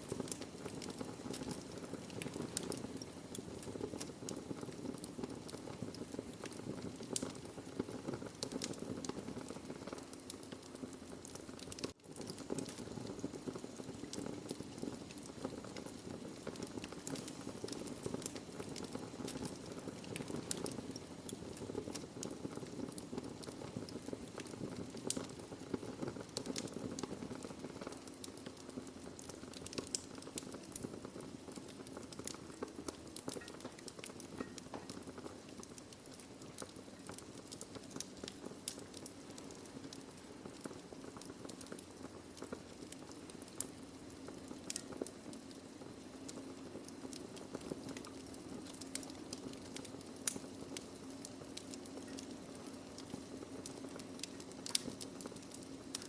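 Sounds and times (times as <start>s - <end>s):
low fire hiss: 0.0s - 56.0s
wood fire crackling and popping: 0.0s - 56.0s.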